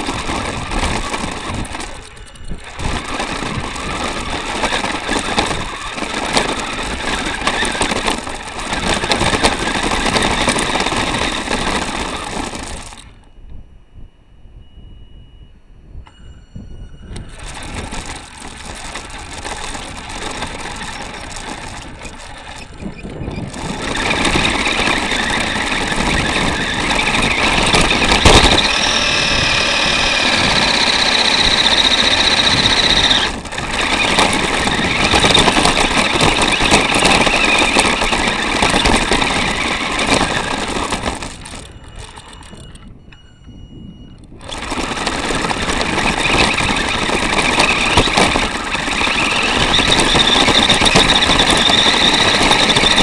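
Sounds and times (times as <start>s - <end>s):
toy car motor whine: 0.0s - 13.2s, 16.1s - 53.0s
wheels and body rattling: 0.0s - 13.6s, 16.0s - 53.0s.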